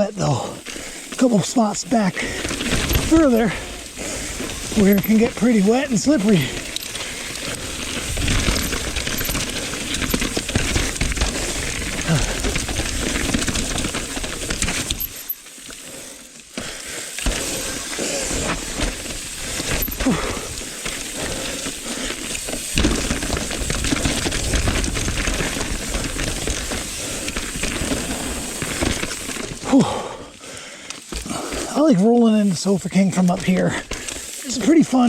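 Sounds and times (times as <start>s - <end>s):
tyres rolling over gravel: 0.0s - 35.0s
bike chain rattling: 0.6s - 31.8s.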